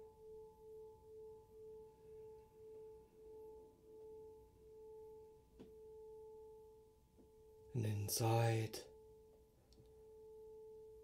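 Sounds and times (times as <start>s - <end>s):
crystal singing pyramid ringing: 0.0s - 11.0s.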